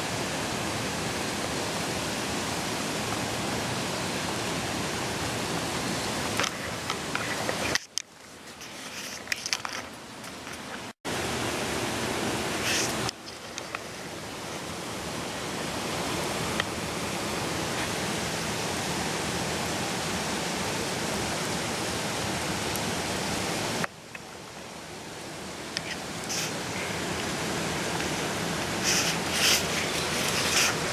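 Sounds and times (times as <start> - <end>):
stream rushing: 0.0 - 30.9.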